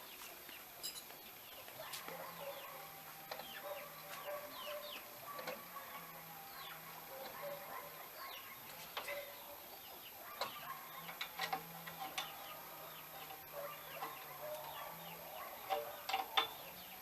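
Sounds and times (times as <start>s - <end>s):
chickens clucking: 1.5s - 17.0s.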